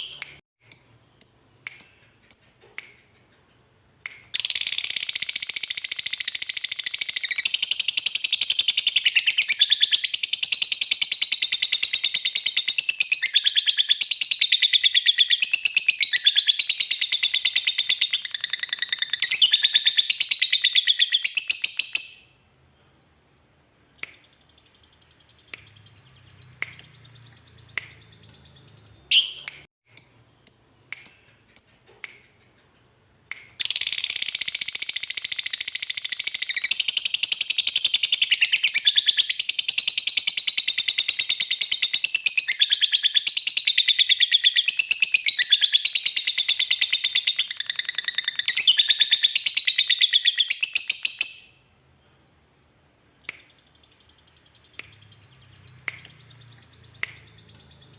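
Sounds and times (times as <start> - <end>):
bird chirping: 0.0 - 57.9
high-pitched bird chattering trill: 4.2 - 31.9, 33.5 - 57.9.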